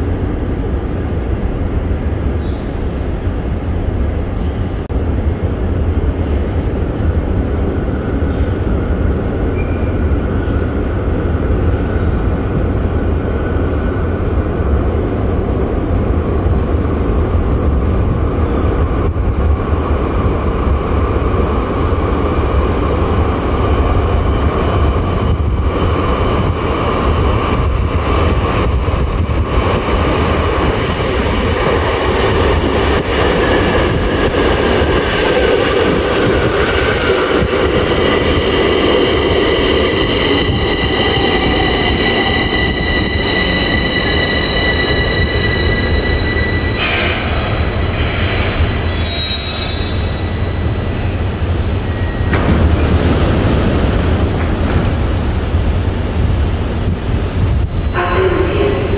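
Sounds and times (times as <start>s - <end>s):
metro train rumble: 0.0s - 58.9s
train high whine: 9.2s - 58.9s.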